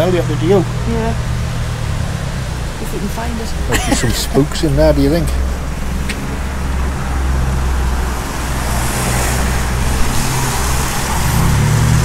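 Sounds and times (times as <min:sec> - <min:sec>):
engine drone: 0:00.0 - 0:12.0
road traffic rumble: 0:00.0 - 0:12.0.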